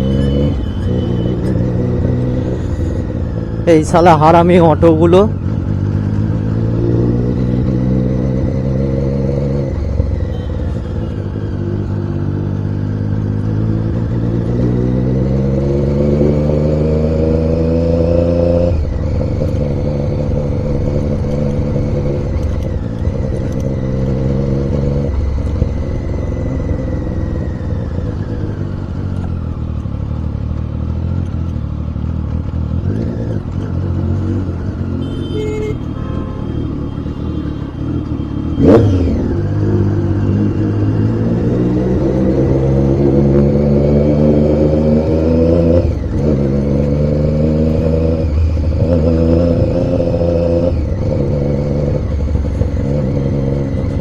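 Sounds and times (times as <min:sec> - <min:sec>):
vehicle engine shifting gears: 0:00.0 - 0:54.0.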